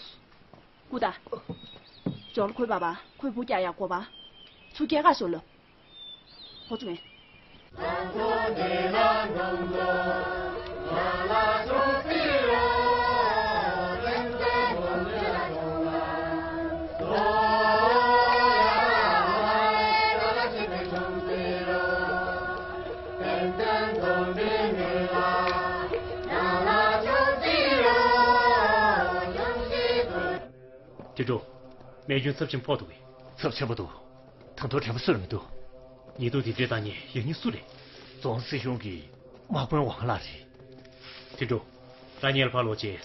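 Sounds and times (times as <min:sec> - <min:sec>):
voices singing a chant: 0:07.7 - 0:43.0.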